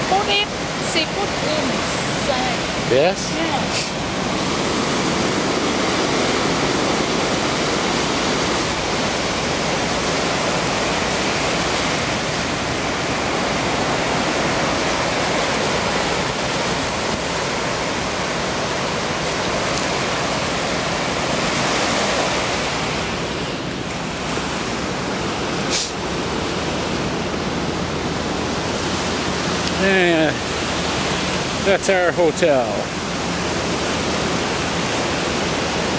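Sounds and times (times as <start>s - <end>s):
ocean surf rushing: 0.0s - 35.9s.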